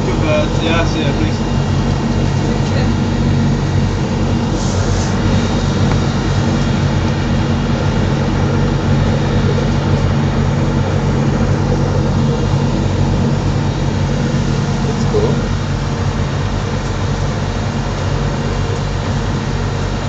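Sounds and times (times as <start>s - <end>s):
ferry engine low drone: 0.0s - 20.0s.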